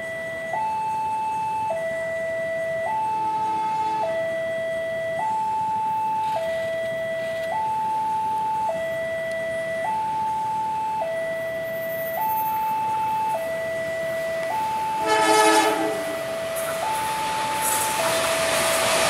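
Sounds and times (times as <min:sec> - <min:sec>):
two-tone crossing alarm: 0:00.0 - 0:19.0.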